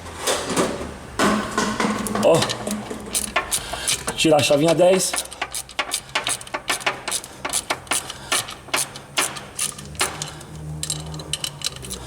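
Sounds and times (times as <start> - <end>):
wrench clicking: 2.0 - 12.0.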